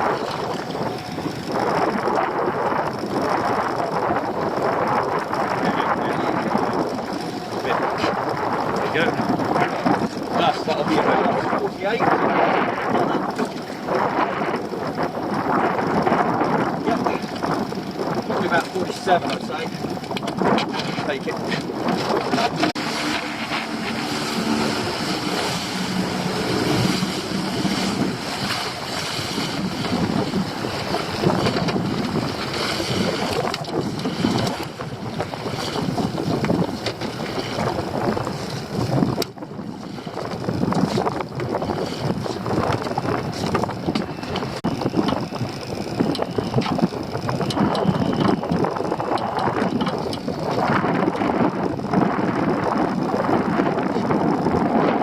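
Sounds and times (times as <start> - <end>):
boat and water noise: 0.0 - 55.0
motor hum: 0.0 - 55.0
wind buffeting microphone: 0.0 - 55.0.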